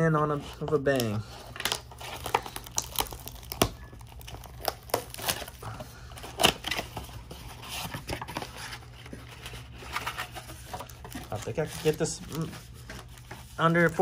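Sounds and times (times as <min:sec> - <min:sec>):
cardboard tearing and crinkling: 0:00.3 - 0:14.0.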